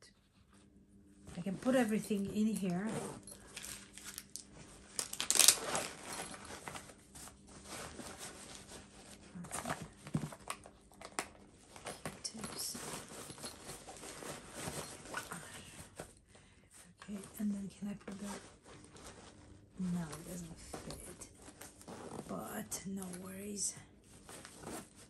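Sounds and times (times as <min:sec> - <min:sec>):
rustling and crinkling of items: 0:00.0 - 0:25.0.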